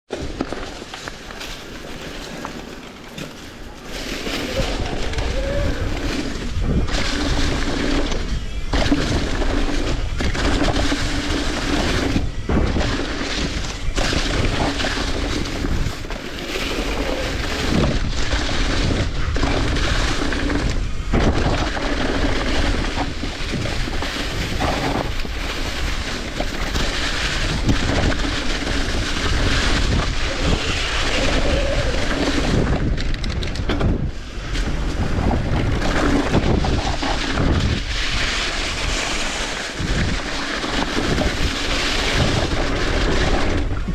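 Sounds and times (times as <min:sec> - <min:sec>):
rough continuous machine noise: 0:00.1 - 0:43.9.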